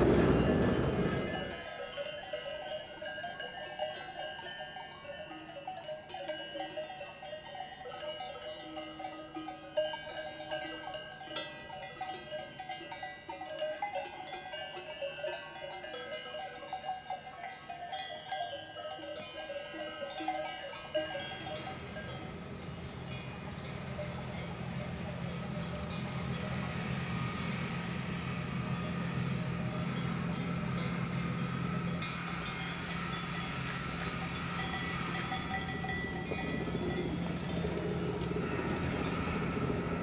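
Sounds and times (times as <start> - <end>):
cowbells clanking: 0.0 - 39.7.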